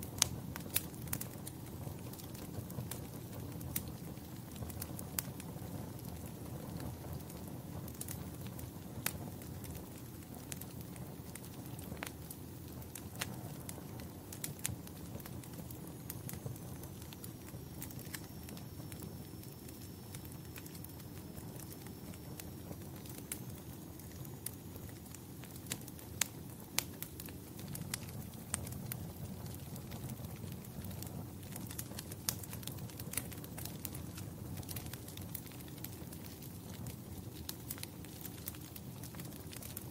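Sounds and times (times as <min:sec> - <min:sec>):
fire pops and snaps: 0:00.0 - 0:39.9
wood fire crackling: 0:00.0 - 0:39.9.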